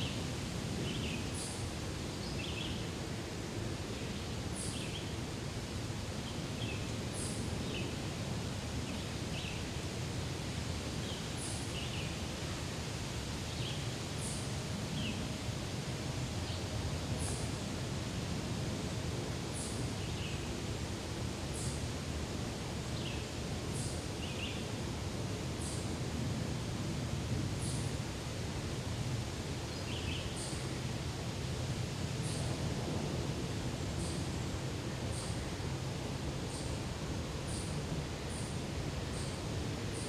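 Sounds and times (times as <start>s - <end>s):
wind rustling leaves: 0.0s - 40.0s.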